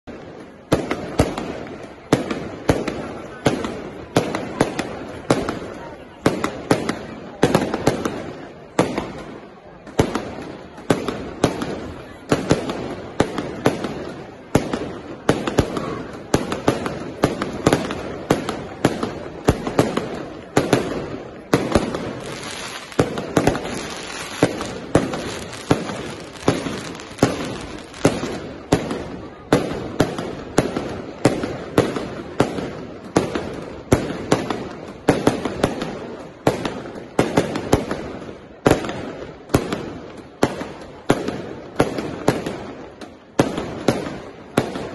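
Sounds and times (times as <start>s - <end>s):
fireworks crackling: 0.0s - 44.9s.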